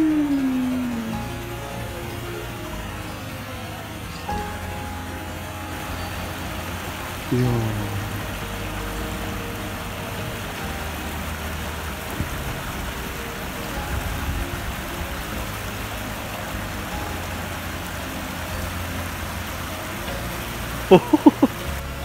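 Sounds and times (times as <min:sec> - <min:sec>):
road traffic rumble: 0:00.0 - 0:22.0
stream running over stones: 0:00.0 - 0:22.0.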